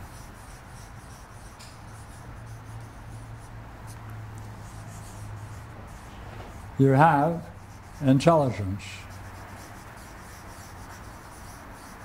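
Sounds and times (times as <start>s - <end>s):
marker scratching on paper: 0.0s - 12.0s
steady low hum: 0.0s - 12.0s.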